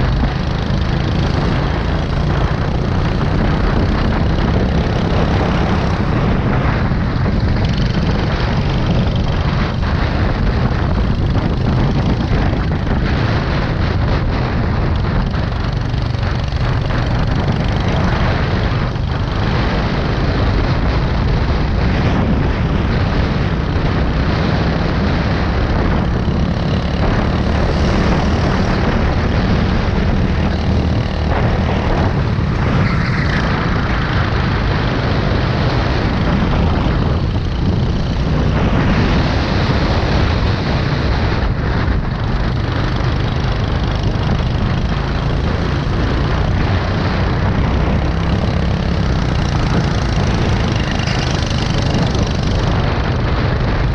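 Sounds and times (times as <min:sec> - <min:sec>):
go-kart engine running hard: 0:00.0 - 0:53.9.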